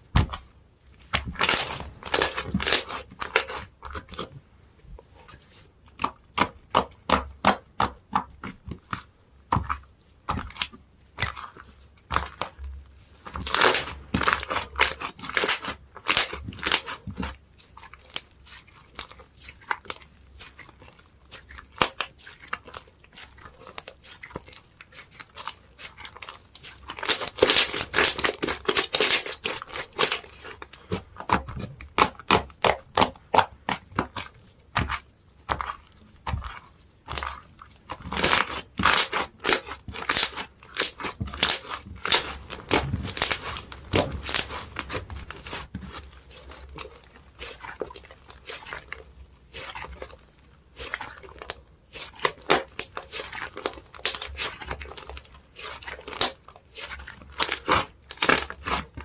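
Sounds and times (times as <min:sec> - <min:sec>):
slime crunchy clicks and crackles: 0:01.0 - 0:04.4, 0:05.9 - 0:59.0.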